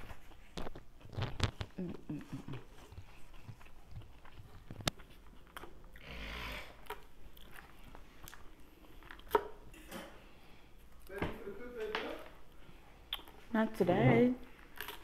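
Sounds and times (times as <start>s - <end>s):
chewing: 0.0s - 11.2s, 12.4s - 13.5s, 14.4s - 15.0s.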